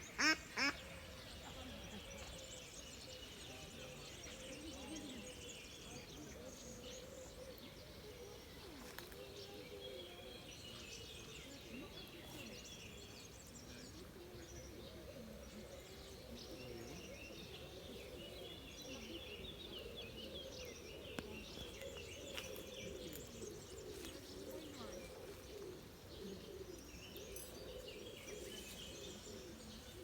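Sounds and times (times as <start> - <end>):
outdoor background murmur: 0.0 - 30.0
small birds chirping: 0.0 - 30.0.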